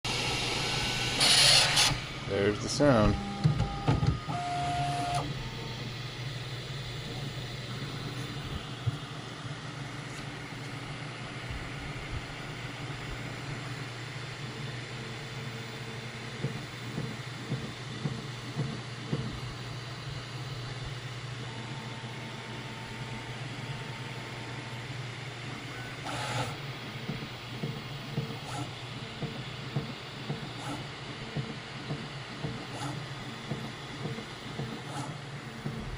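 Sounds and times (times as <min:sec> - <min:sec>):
fan hum: 0:00.1 - 0:35.9.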